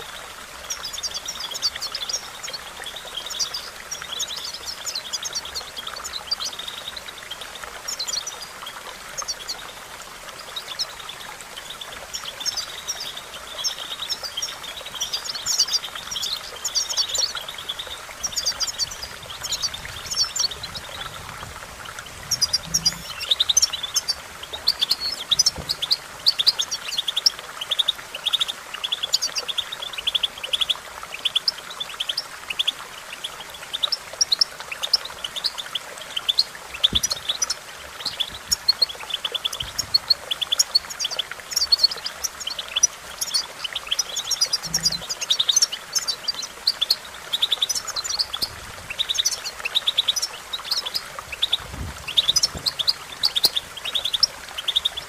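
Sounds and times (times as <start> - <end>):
goldfinch twittering song: 0.0 - 55.0.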